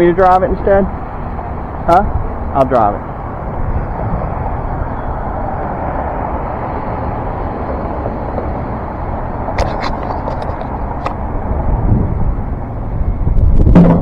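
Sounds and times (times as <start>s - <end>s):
vehicle rumble with hiss: 0.0s - 13.7s.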